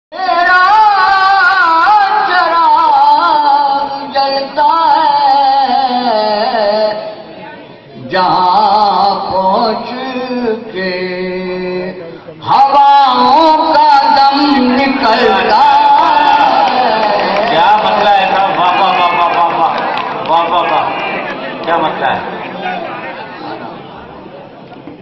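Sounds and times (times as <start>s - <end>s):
person reciting in sung style: 0.1s - 7.3s, 8.0s - 20.9s.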